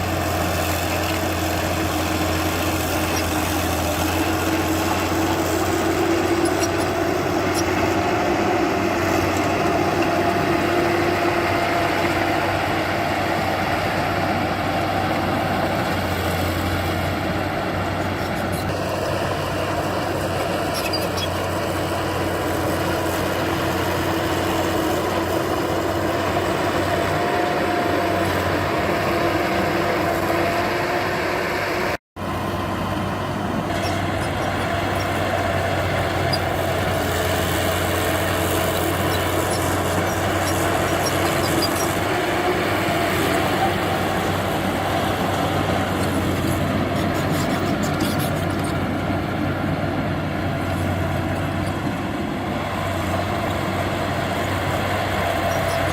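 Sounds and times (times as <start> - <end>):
heavy machinery diesel engine running: 0.0 - 55.9.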